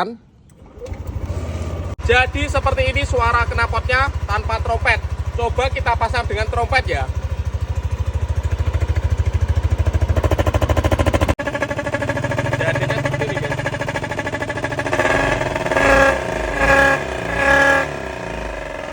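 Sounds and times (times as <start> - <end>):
motorcycle exhaust idling: 0.5 - 18.9.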